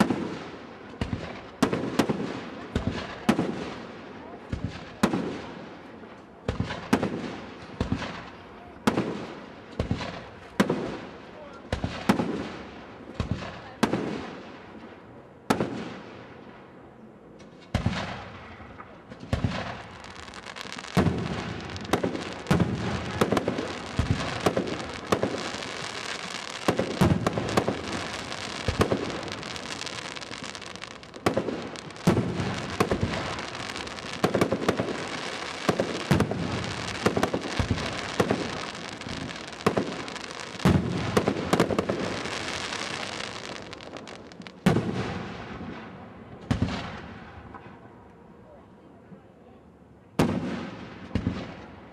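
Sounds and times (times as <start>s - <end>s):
firework crackling: 0.0s - 14.9s, 17.5s - 47.6s
barrage of firework bangs: 0.0s - 16.1s, 17.4s - 47.8s, 50.2s - 51.6s.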